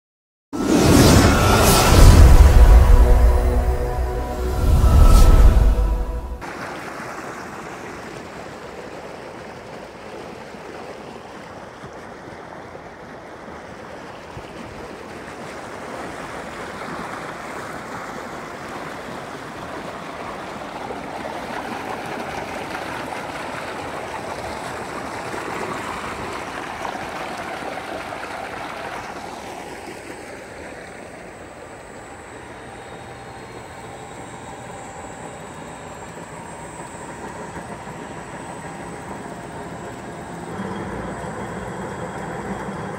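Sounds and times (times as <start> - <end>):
pump motor hum with whine: 2.4 - 42.9.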